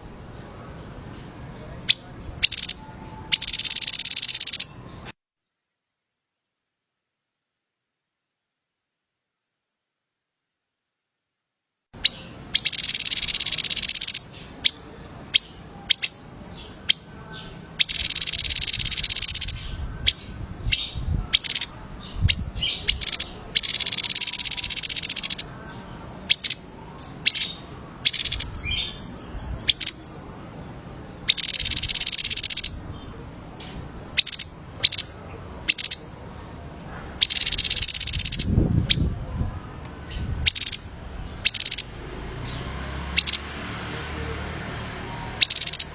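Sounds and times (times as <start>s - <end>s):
songbird trilling: 0.0s - 5.1s, 12.0s - 45.9s
bird chirps: 0.0s - 5.2s, 12.0s - 45.9s.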